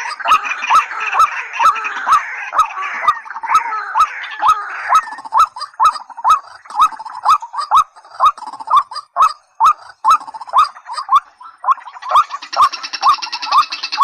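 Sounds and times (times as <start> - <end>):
rail bird calling: 0.0 - 14.0.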